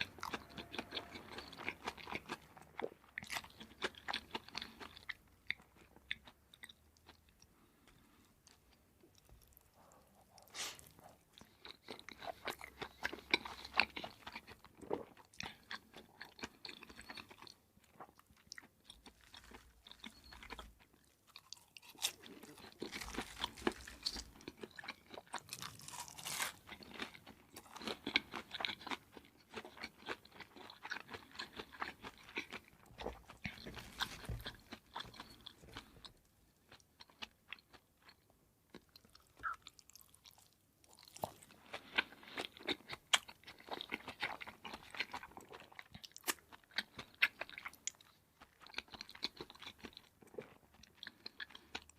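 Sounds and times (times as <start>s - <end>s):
crunchy food chewing: 0.0s - 51.9s.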